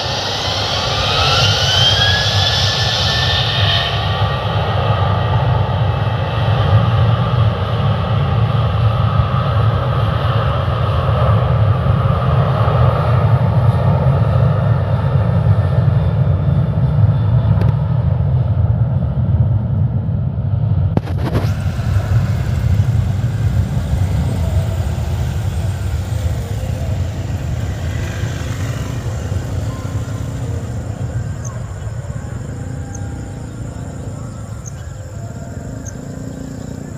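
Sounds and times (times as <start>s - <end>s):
airplane engine rumble: 0.0s - 36.9s.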